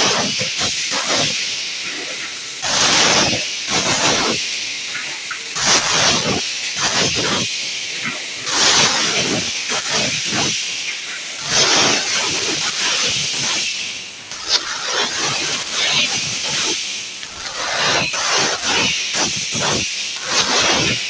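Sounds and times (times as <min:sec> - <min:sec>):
compressed air hiss bursts: 0:00.0 - 0:21.0
steady mechanical clatter: 0:00.0 - 0:21.0.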